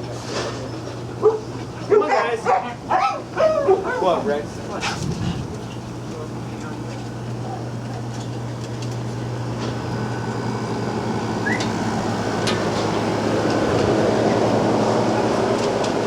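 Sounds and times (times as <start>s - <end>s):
machine hum: 2.8s - 16.0s.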